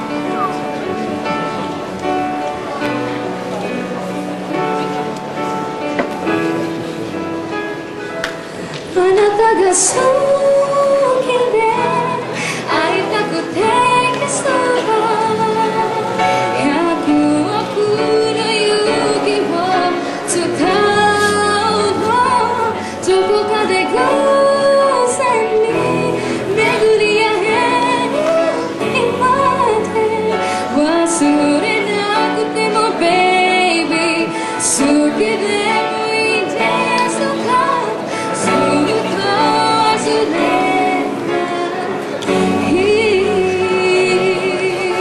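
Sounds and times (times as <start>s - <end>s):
guitar: 0.0s - 45.0s
piano: 0.0s - 45.0s
woman singing pop song: 8.8s - 45.0s.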